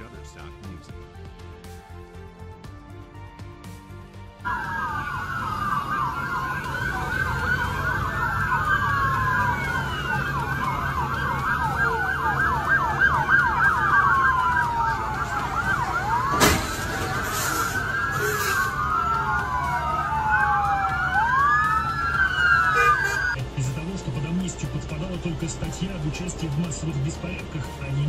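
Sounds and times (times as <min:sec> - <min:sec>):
police sirens wailing and yelping: 0:04.4 - 0:28.0
low engine rumble: 0:04.5 - 0:28.0.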